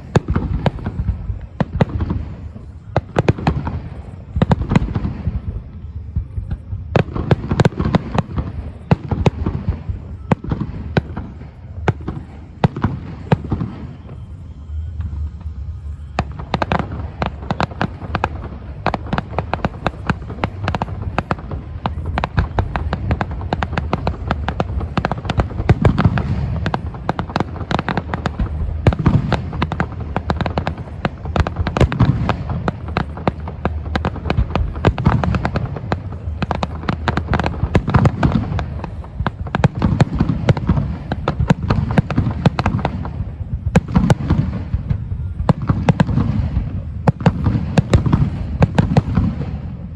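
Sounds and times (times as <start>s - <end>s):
fireworks crackling bangs: 0.0s - 49.9s.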